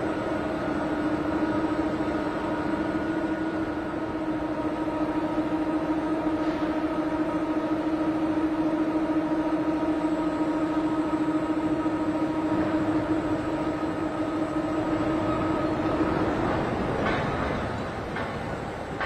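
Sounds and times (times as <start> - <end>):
heavy machinery hum: 0.0 - 19.0.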